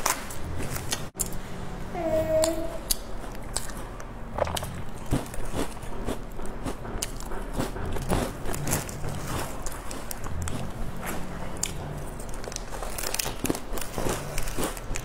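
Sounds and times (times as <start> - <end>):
crackers being chewed: 2.9 - 15.0.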